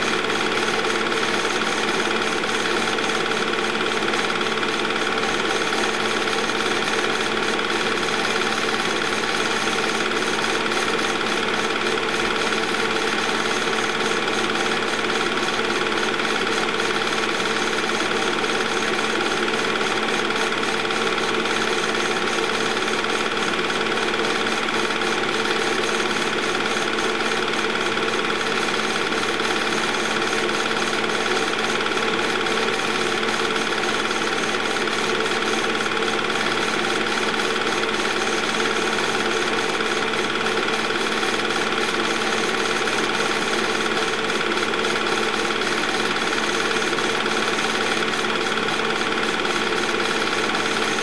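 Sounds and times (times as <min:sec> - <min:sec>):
movie projector clattering: 0:00.0 - 0:51.0.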